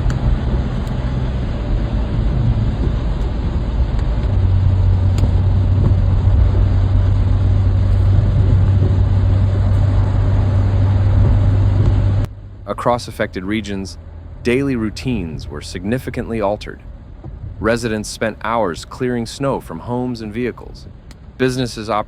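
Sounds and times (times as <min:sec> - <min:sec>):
steady low hum: 0:00.0 - 0:22.0
vehicle engine rumbling: 0:00.0 - 0:22.0.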